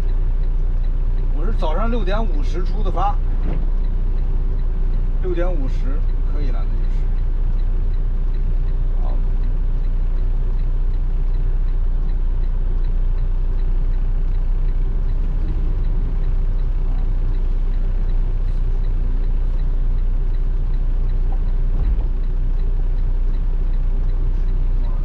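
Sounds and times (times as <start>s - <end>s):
light even ticking: 0.0s - 25.0s
truck engine running: 0.0s - 25.0s.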